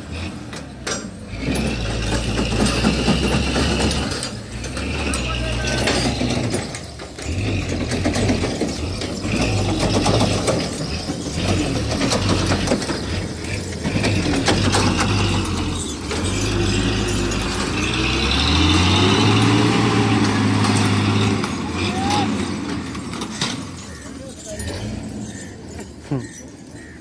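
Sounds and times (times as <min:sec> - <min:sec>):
truck clanks and rattles: 0:00.0 - 0:27.0
truck diesel engine under load: 0:00.0 - 0:27.0.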